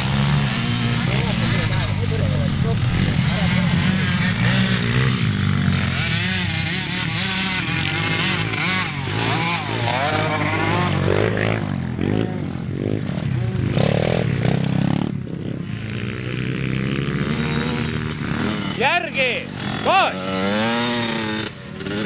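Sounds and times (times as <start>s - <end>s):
racing motorcycle engines revving: 0.0s - 22.0s.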